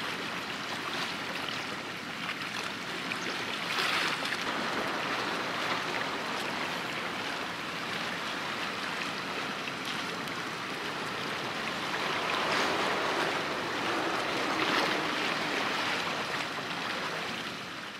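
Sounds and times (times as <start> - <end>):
seawater washing and lapping: 0.0 - 17.9.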